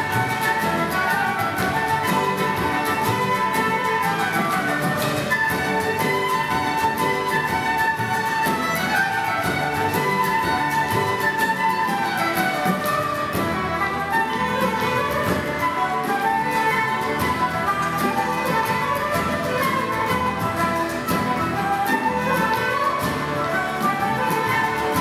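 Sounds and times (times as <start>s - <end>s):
fiddle: 0.0s - 25.0s
flute: 0.0s - 25.0s
frame drum: 0.0s - 25.0s
strummed guitar: 0.0s - 25.0s.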